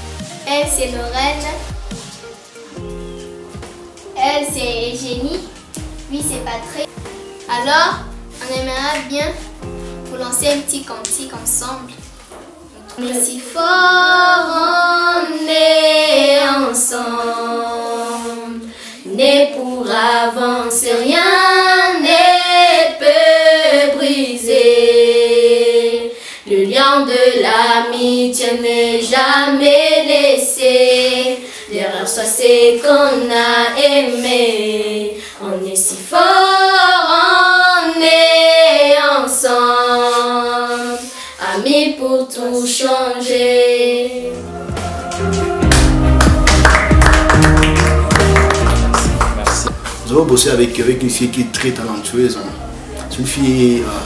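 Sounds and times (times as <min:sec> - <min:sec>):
children singing unaccompanied: 0:00.4 - 0:54.0.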